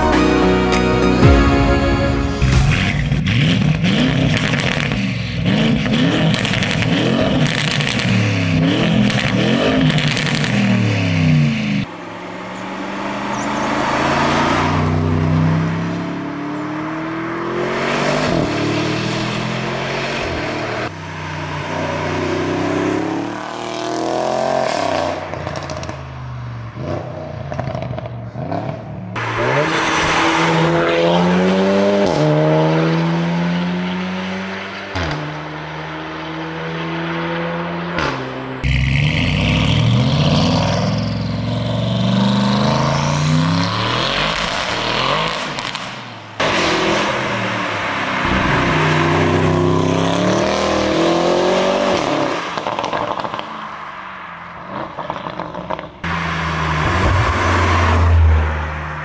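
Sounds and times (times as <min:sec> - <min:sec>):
car engines accelerating hard: 0:02.5 - 0:59.0.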